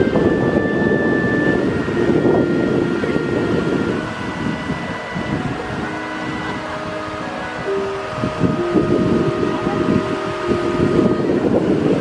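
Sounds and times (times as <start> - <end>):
fountain water rushing: 0.0 - 12.0
wind on microphone: 0.0 - 12.0.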